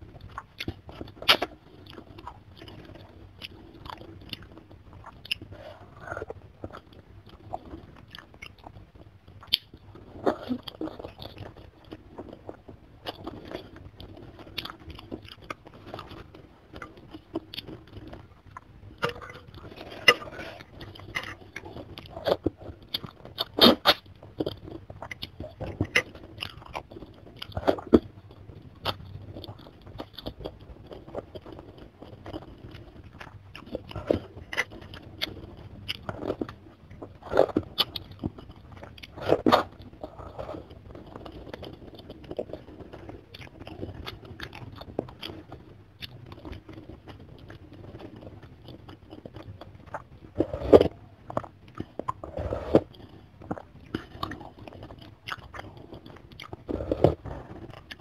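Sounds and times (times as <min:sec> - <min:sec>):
wet chewing with crunchy bites: 0:00.0 - 0:58.0.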